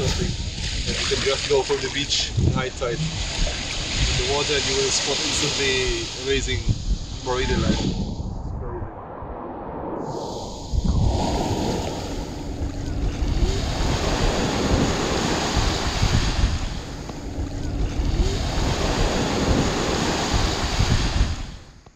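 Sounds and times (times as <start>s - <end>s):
sea waves washing in: 0.0s - 21.9s
wind buffeting microphone: 0.0s - 21.9s.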